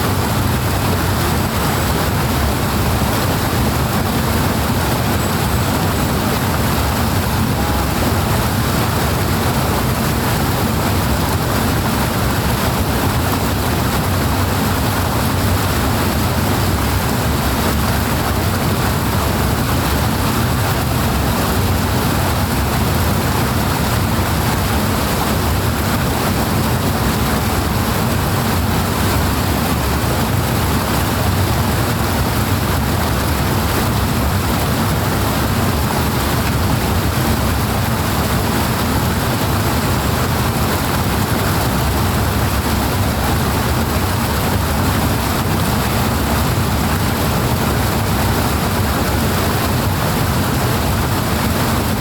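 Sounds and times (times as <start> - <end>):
rushing water: 0.0 - 52.0.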